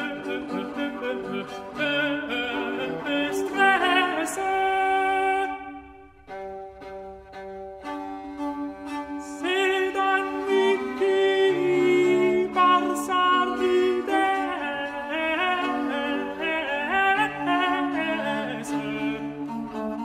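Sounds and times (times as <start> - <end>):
person singing: 0.0 - 6.4, 9.0 - 20.0
bowed string instruments: 0.0 - 20.0.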